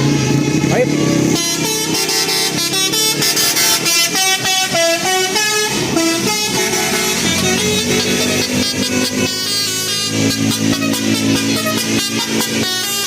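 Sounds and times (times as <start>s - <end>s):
musical bus air horn tune: 1.2s - 13.0s.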